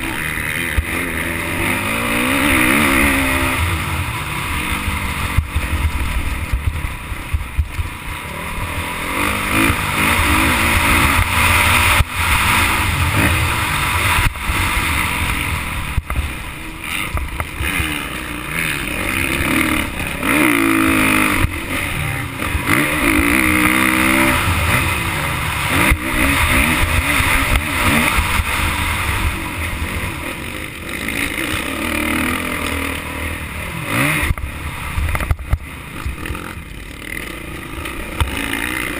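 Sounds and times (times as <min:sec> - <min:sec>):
heavy rushing noise: 0:00.0 - 0:38.9
motorbike engine revving: 0:00.0 - 0:38.9.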